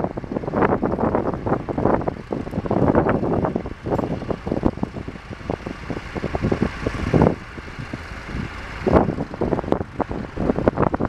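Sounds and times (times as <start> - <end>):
distant tractor engines: 0.0 - 11.0
wind buffeting microphone: 0.0 - 11.0.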